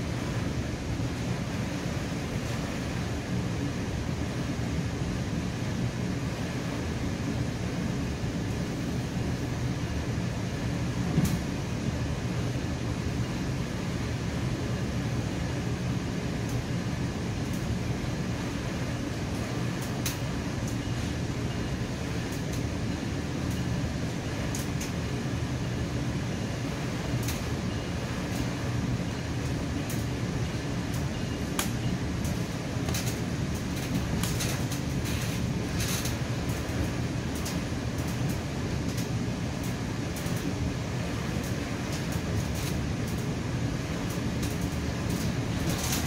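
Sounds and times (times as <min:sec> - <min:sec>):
train interior rumble: 0:00.0 - 0:46.0.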